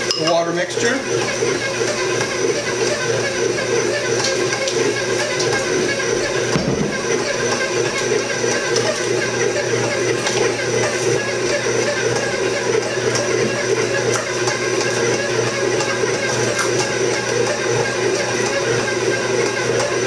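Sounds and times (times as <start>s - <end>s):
stand mixer motor humming: 0.0s - 20.0s.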